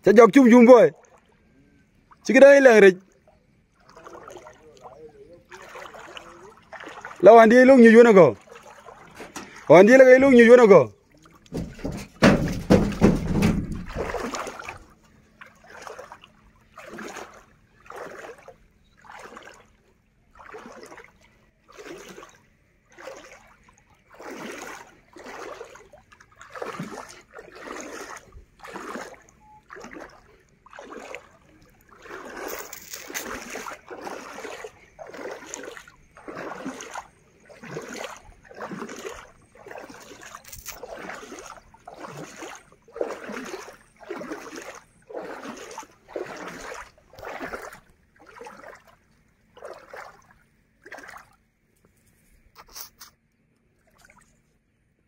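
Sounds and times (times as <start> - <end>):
wading through water: 0.0 - 55.0.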